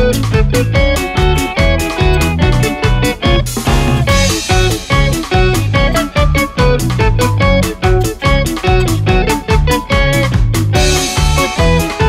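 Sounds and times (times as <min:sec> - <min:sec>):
background music with quick notes: 0:00.0 - 0:12.0.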